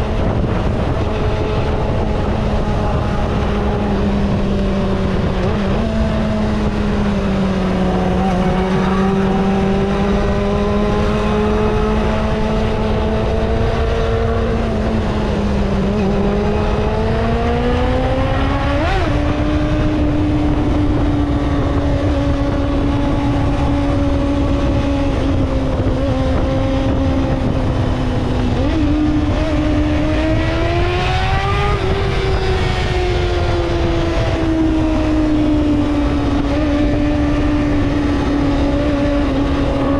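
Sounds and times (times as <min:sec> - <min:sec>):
motorcycle engine at high revs: 0:00.0 - 0:39.9
wind rushing: 0:00.0 - 0:39.9.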